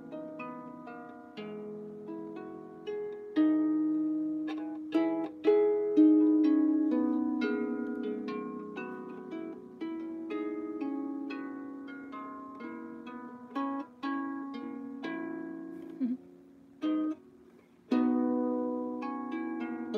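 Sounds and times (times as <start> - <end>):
out-of-tune harp plucked: 0.0 - 16.2, 16.8 - 19.9.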